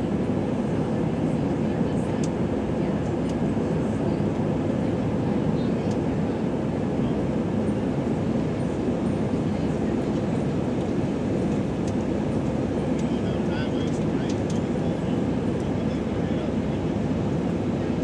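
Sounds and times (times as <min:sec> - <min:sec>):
jet engine and airflow rush: 0:00.0 - 0:18.0.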